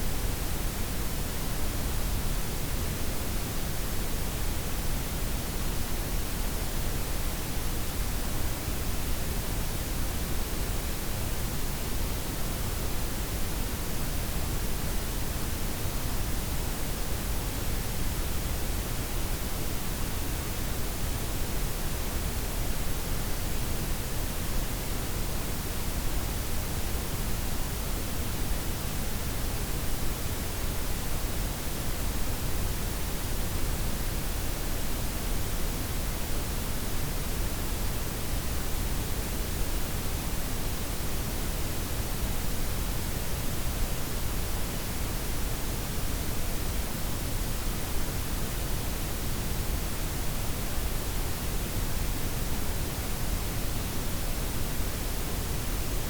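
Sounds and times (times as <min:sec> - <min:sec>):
steady synthetic noise hiss: 0:00.0 - 0:56.0.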